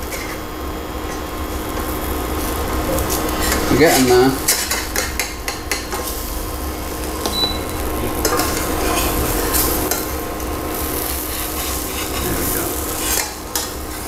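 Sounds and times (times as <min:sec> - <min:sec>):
batter sizzling in oil: 0:00.0 - 0:14.0.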